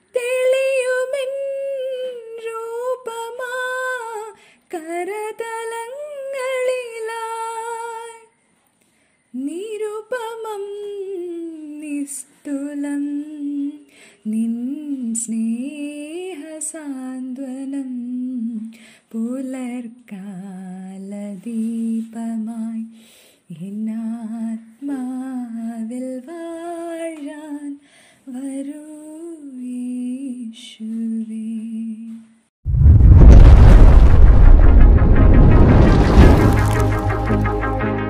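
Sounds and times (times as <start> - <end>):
woman singing unaccompanied: 0.0 - 8.3, 9.3 - 32.4.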